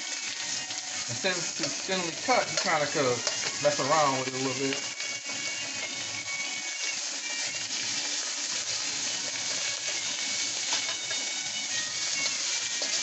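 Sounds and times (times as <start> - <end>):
steak sizzling in oil: 0.0 - 13.0.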